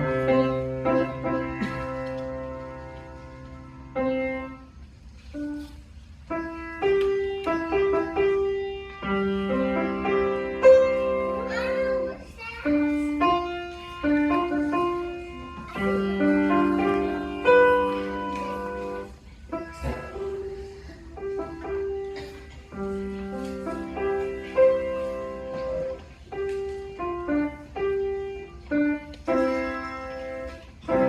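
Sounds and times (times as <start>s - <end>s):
solo piano piece: 0.0s - 31.0s.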